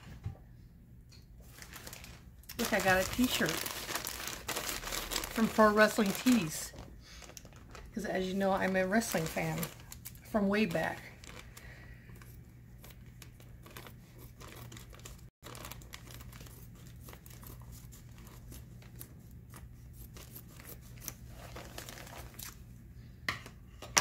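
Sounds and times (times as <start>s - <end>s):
low steady hum: 0.0s - 24.0s
packaging crinkling and tearing: 1.4s - 22.7s.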